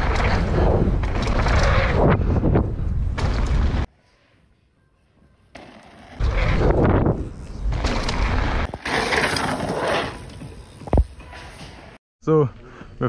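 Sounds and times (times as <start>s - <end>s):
bike tyres rolling on dirt: 0.0s - 3.9s, 5.1s - 12.0s.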